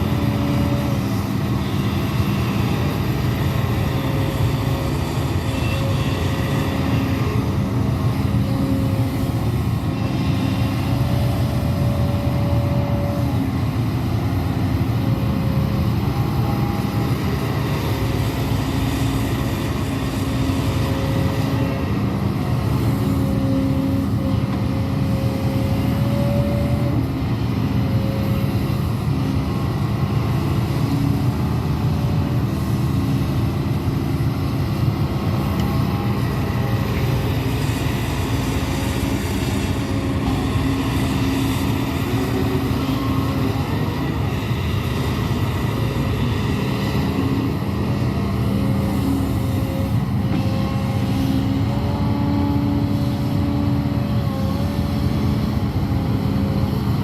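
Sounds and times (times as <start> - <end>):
excavator diesel engine rumbling: 0.0 - 57.0.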